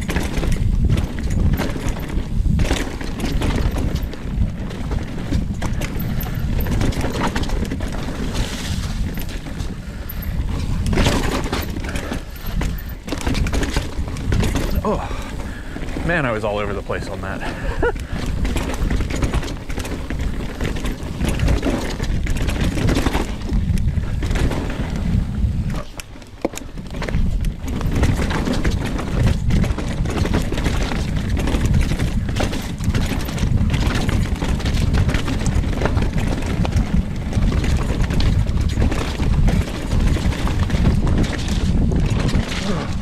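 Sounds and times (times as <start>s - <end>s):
bike rattling over terrain: 0.0s - 43.0s
bike tyre noise: 0.0s - 43.0s
wind buffeting camera: 0.0s - 43.0s.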